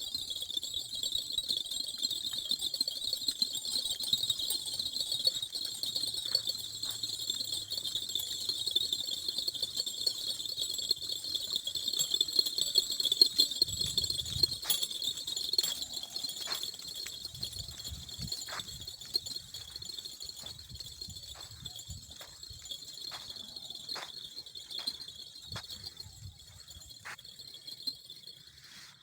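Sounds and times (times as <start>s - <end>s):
faint clicks or jingles: 0.0s - 29.0s.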